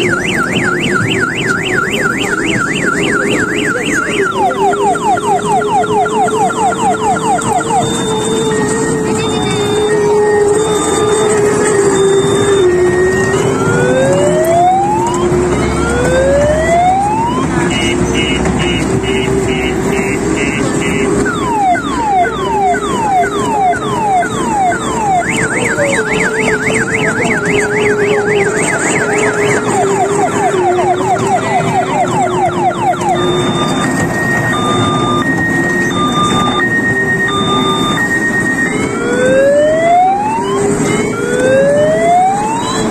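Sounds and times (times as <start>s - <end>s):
electronic siren: 0.0s - 42.9s.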